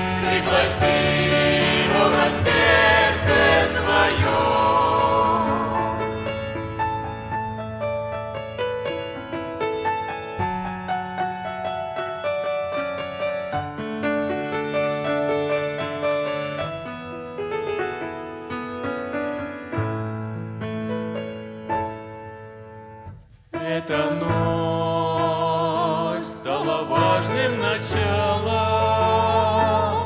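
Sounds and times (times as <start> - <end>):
piano playing chords and melody: 0.0 - 30.0.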